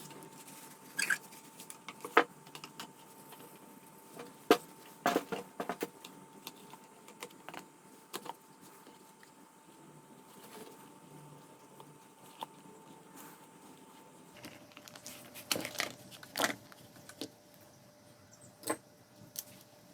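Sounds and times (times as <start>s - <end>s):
faint steady whine: 0.0s - 19.9s.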